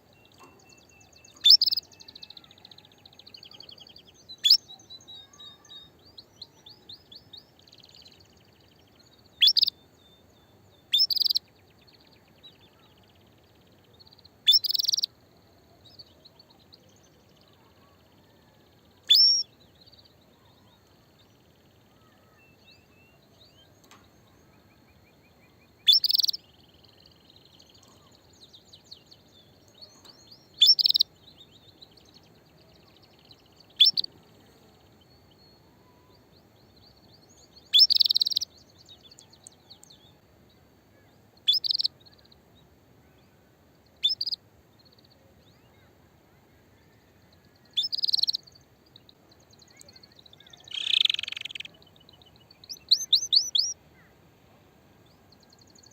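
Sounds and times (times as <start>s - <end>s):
faint chirping: 0.0s - 55.9s.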